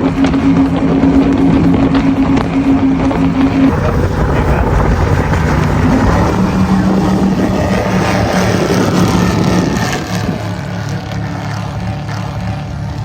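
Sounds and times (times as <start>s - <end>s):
powerboat engines droning: 0.0s - 13.0s
rushing water noise: 0.0s - 13.0s.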